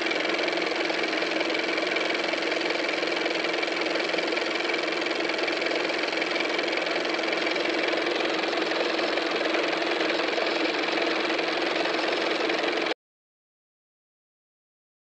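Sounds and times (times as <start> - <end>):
mechanical running noise: 0.0 - 13.0.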